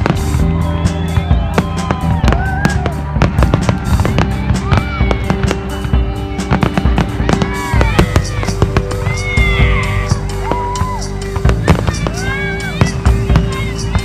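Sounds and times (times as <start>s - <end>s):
fireworks popping and crackling: 0.0s - 14.0s.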